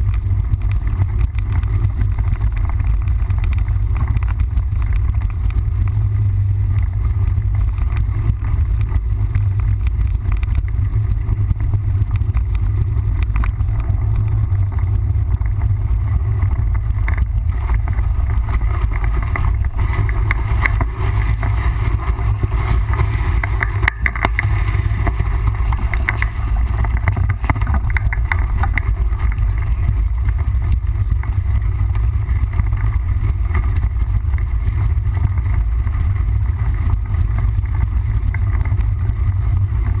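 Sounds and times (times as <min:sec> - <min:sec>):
bike rattling on rough trail: 0:00.0 - 0:40.0
wind buffeting microphone: 0:00.0 - 0:40.0.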